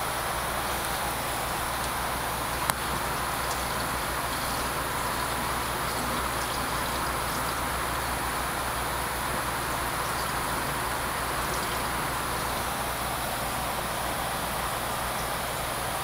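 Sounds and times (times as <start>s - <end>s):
aquarium pump hiss and hum: 0.0s - 16.0s
circulating water: 0.0s - 16.0s.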